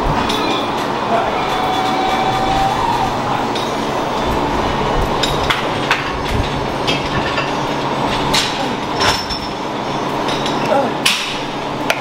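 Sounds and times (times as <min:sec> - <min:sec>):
noisy gym background: 0:00.0 - 0:12.0.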